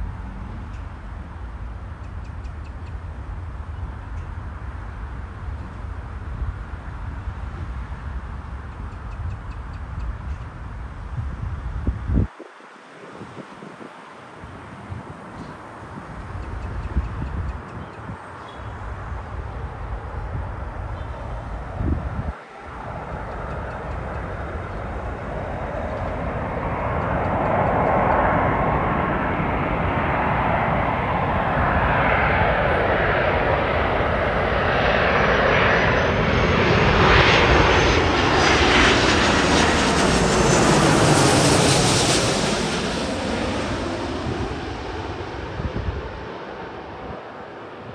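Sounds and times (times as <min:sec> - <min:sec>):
jet airliner roar with fan whine: 0:00.0 - 0:47.9.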